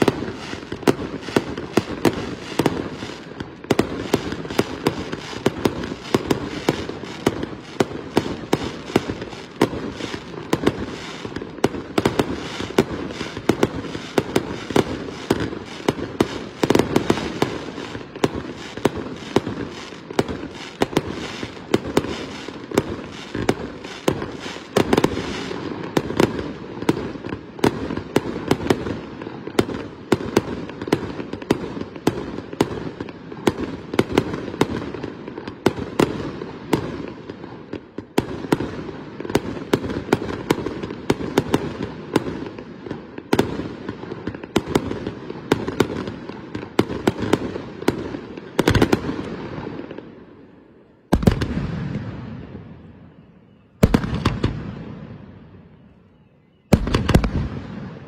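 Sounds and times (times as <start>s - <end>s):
fireworks bursting: 0.0s - 56.0s, 56.7s - 58.0s.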